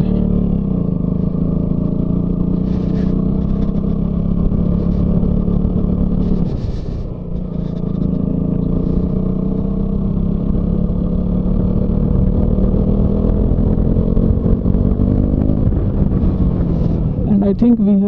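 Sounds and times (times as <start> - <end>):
low wind: 0.0 - 18.0
motorcycle engine running: 0.0 - 18.0
road rumble: 0.0 - 18.0.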